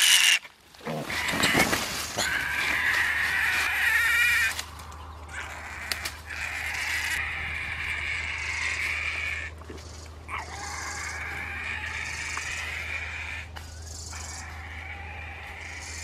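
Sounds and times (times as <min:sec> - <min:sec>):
pig squealing: 0:00.0 - 0:04.6, 0:05.3 - 0:09.5, 0:10.3 - 0:16.0.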